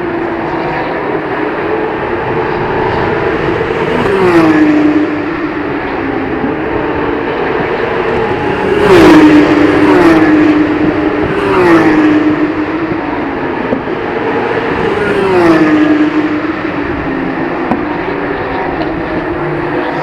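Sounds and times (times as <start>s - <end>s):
distant engine drone: 0.0s - 20.0s
race car engines passing by: 0.0s - 20.0s.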